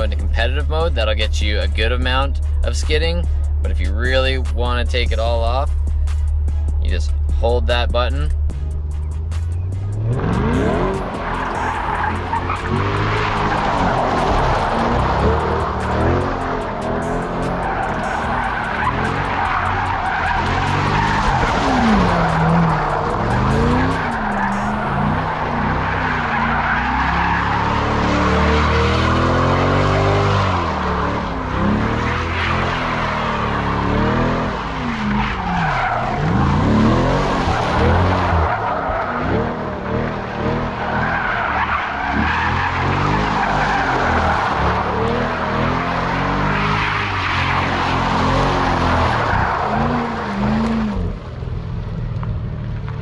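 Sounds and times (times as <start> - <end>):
tires squealing: 0.0 - 52.2
car engine revving: 0.0 - 53.0.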